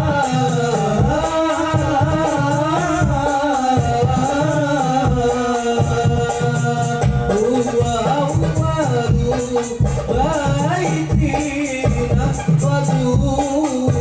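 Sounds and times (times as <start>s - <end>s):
men singing: 0.0s - 14.0s.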